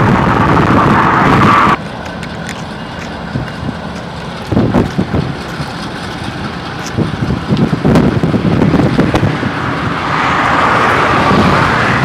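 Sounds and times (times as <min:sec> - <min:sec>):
diesel locomotive engine running: 0:00.0 - 0:12.0
steady rumble: 0:00.0 - 0:12.0.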